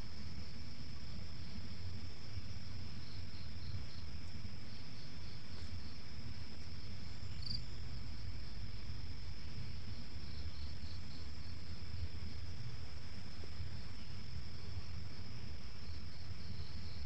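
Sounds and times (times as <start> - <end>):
cricket chirping: 0.0 - 17.0
crickets trilling: 0.0 - 17.0
low steady rumble: 0.0 - 17.0.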